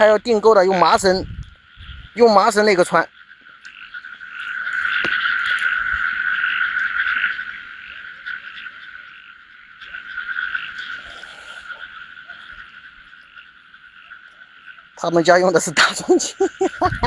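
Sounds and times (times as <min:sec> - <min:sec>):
frogs croaking in chorus: 0:00.0 - 0:17.0.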